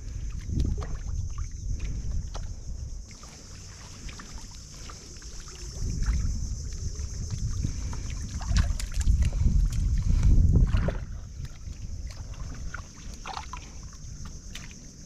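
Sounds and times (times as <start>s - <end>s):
sharp knocks and splashes: 0.0s - 14.9s
water sloshing and dripping: 0.0s - 15.0s.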